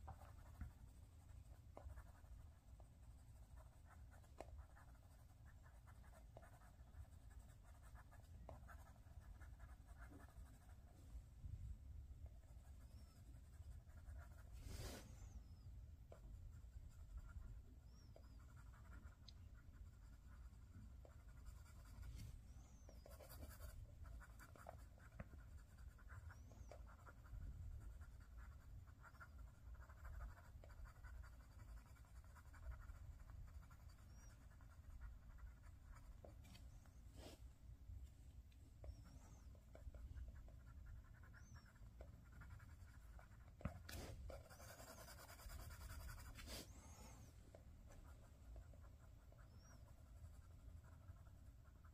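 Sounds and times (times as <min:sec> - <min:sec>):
pencil scratching on paper: 0:00.0 - 0:10.9, 0:12.3 - 0:37.4, 0:38.8 - 0:51.9.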